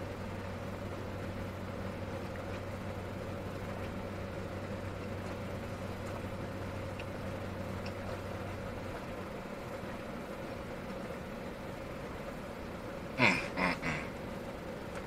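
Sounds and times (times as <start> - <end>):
air conditioning running: 0.0 - 15.0
car engine idling: 0.0 - 15.0.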